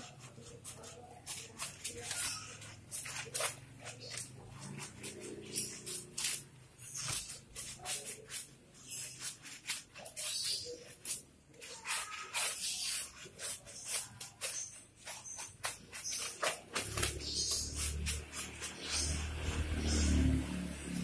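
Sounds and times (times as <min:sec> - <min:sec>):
sponge scrubbing wet fur: 0:00.0 - 0:21.0.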